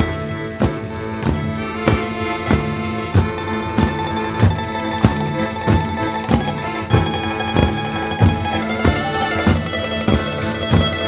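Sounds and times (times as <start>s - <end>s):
folk band playing: 0.0s - 11.0s
tambourines beating: 0.0s - 11.0s.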